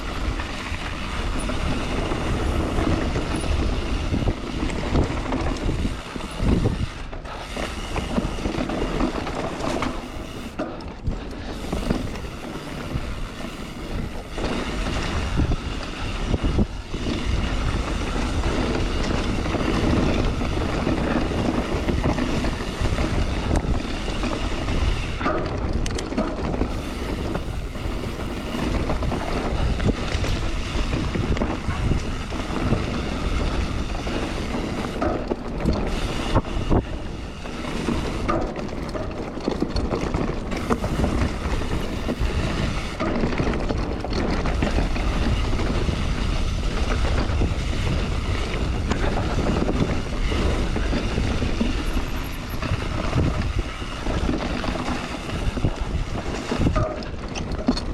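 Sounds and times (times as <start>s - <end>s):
bike rattling clicks and knocks: 0.0s - 57.9s
bike tyre noise: 0.0s - 57.9s
wind buffeting microphone: 0.0s - 57.9s.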